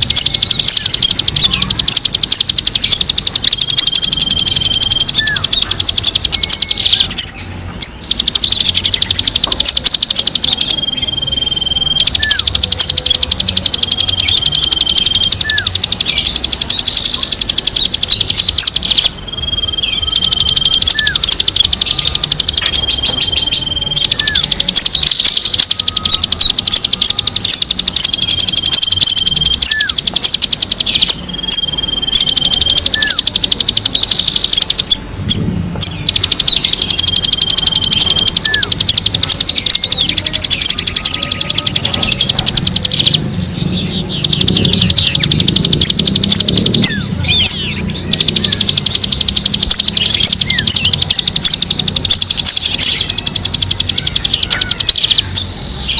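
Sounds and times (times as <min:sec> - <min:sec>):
songbird chatter: 0:00.0 - 0:55.9.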